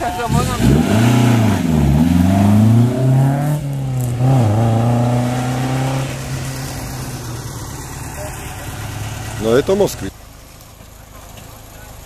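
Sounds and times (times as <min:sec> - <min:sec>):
rally car engine revving: 0:00.0 - 0:10.1.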